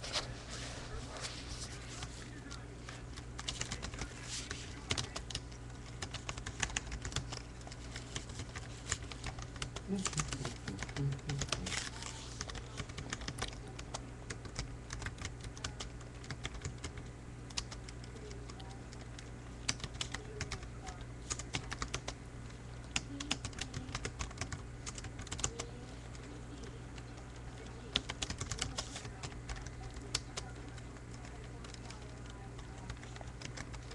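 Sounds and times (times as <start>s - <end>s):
computer keyboard typing: 2.0s - 33.9s.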